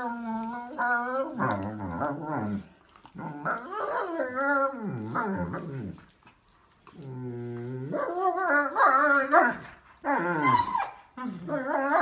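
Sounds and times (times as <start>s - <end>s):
dogs growling and whining: 0.0s - 6.2s, 6.9s - 12.0s.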